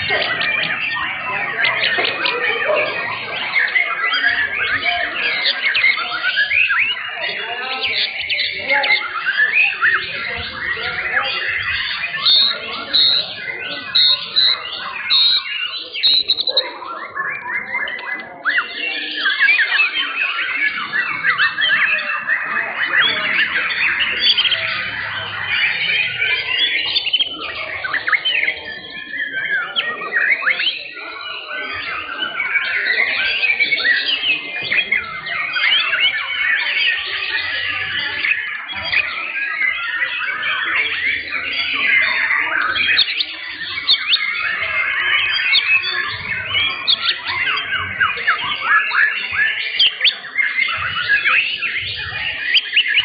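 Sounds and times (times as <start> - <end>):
chorus of birds singing: 0.0 - 53.0.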